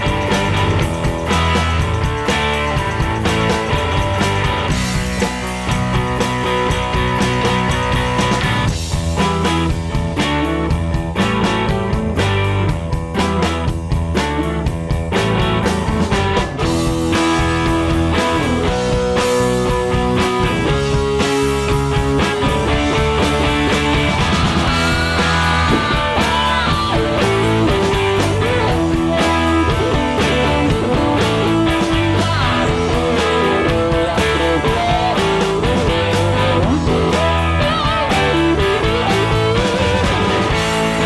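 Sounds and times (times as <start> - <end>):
guitar rock music with bass: 0.0 - 41.0.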